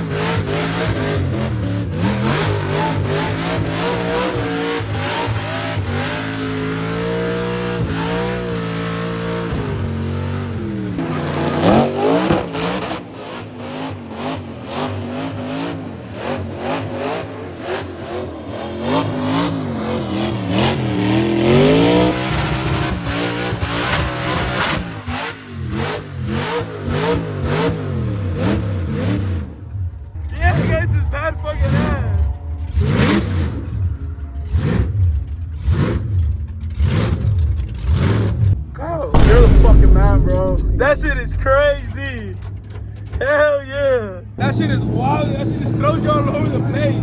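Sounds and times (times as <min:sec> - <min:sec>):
car engine revving: 0:00.0 - 0:43.4.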